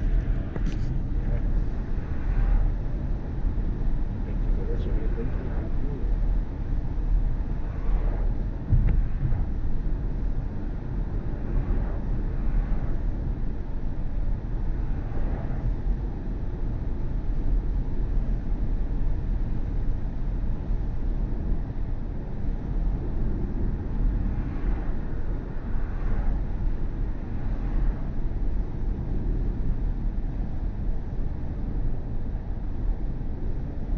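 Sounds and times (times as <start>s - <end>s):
road and tyre rumble: 0.0s - 33.9s.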